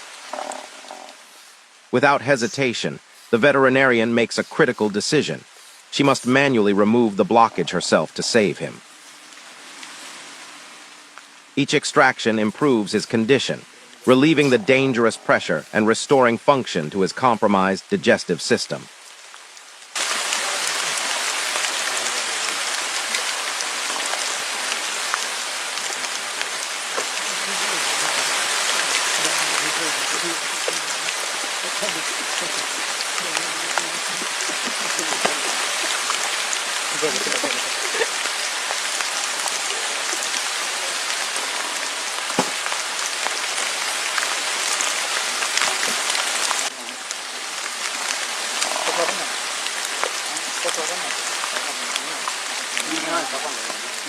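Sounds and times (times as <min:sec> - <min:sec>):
patter of falling water: 0:00.0 - 0:54.0
rain-like hiss: 0:00.0 - 0:54.0.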